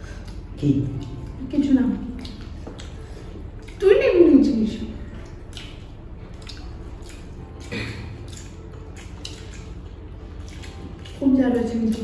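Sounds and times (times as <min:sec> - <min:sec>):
chewing and lip smacks: 0:00.0 - 0:03.9, 0:05.0 - 0:12.0.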